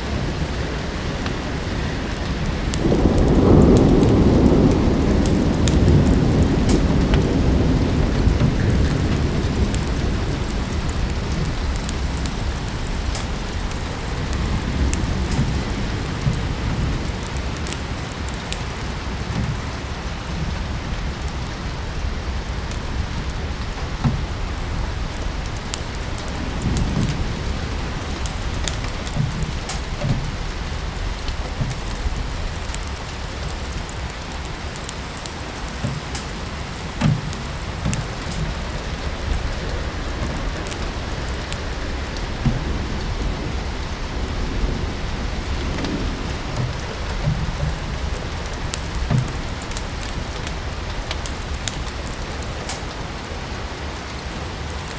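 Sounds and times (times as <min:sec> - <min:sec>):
steady rain falling: 0:00.0 - 0:54.9
wood fire crackling: 0:00.0 - 0:54.9.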